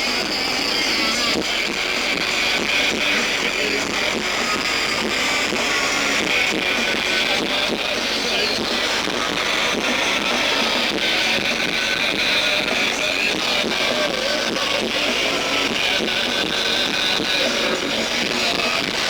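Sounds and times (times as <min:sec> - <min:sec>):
rock band with distorted guitars: 0:00.0 - 0:19.0.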